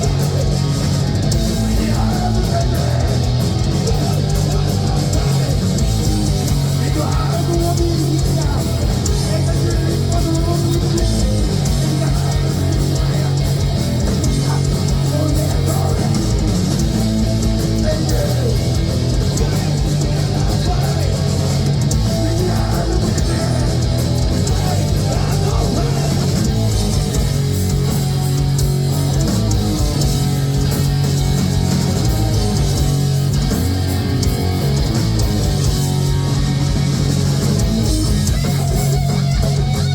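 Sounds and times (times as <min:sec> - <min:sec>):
heavy metal band playing live: 0:00.0 - 0:39.9.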